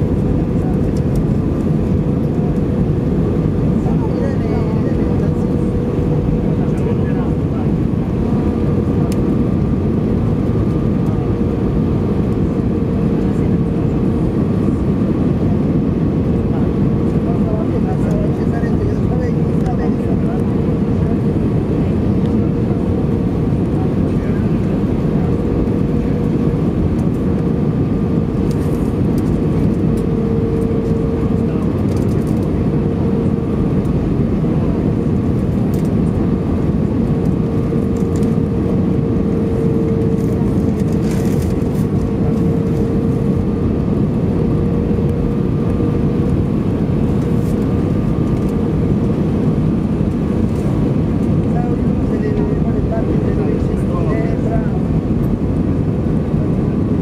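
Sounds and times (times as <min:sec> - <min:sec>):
airliner cabin roar: 0:00.0 - 0:57.0
steady hum: 0:00.0 - 0:57.0.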